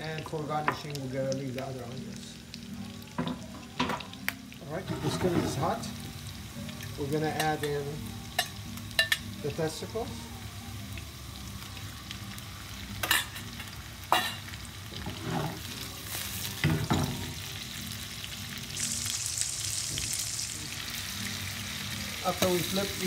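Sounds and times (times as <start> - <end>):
meat sizzling in a skillet: 0.0 - 23.0.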